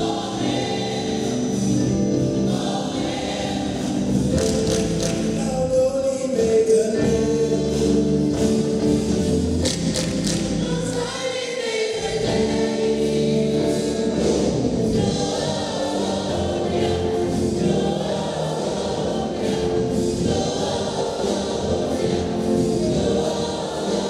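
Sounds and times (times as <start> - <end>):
gospel choir singing: 0.0 - 24.0.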